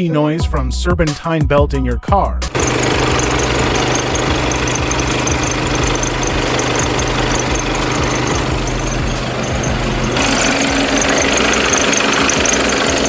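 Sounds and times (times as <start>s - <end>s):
belt squeak: 2.5s - 13.0s
diesel engine idling: 2.5s - 13.0s.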